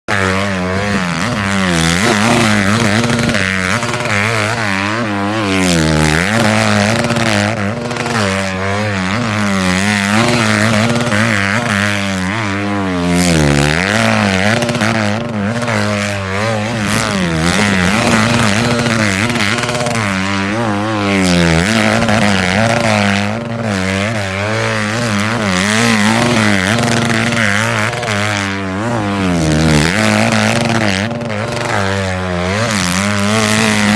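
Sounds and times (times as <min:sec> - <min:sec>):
dirt bike engine on rev limiter: 0:00.1 - 0:33.9.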